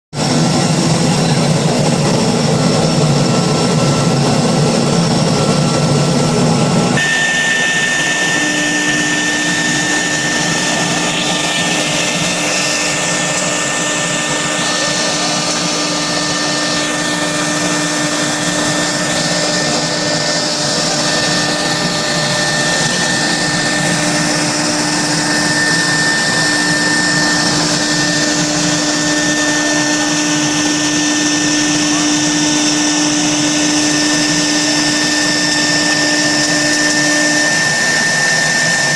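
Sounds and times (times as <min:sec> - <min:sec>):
cnc router machining noise: 0:00.2 - 0:38.9.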